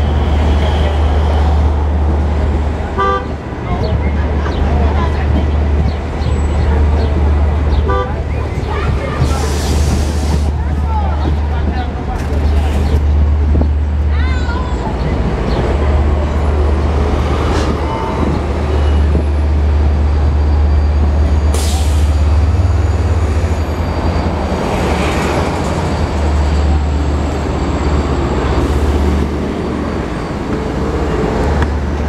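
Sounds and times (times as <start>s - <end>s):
diesel locomotive passing: 0.0s - 32.0s
train rumbling overhead: 0.0s - 32.0s.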